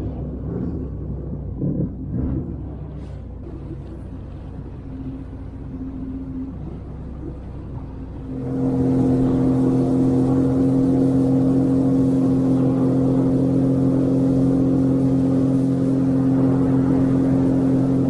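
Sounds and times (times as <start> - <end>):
jet ski engine revving: 2.2 - 18.0
rush of wind and water: 3.5 - 18.0.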